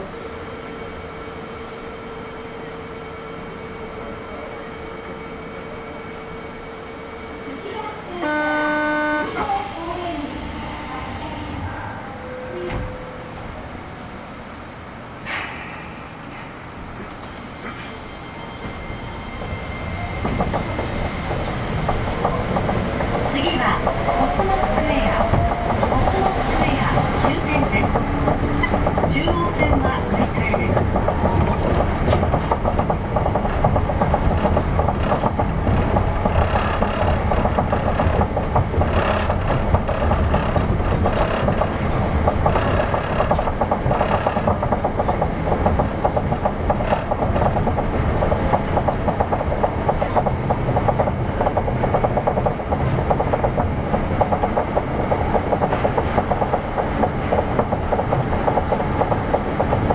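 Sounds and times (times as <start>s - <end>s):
train tyres and motors rumbling: 0.0s - 59.9s.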